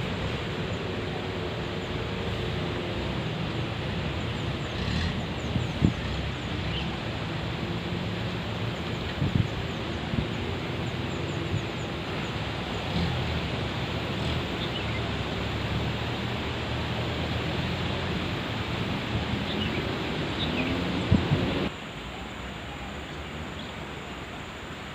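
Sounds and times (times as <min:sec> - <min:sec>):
jeep engine running: 0:00.0 - 0:21.7
rushing noise: 0:00.0 - 0:24.9.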